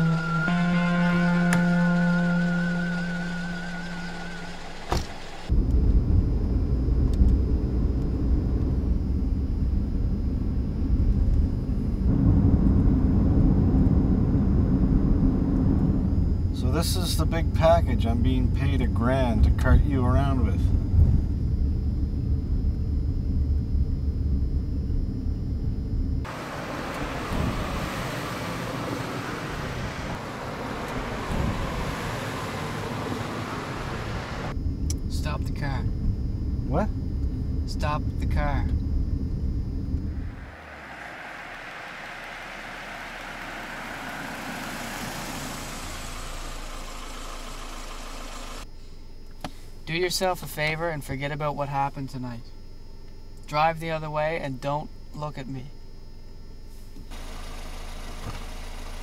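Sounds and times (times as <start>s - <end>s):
car engine and road rumble: 0.0s - 49.8s, 56.6s - 59.0s.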